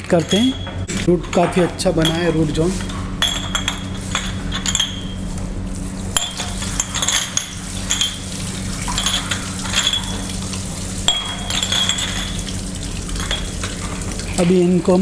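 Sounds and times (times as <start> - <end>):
glass jars clinking: 0.0 - 5.2, 6.2 - 10.4, 11.0 - 13.8
steady low hum: 0.0 - 15.0.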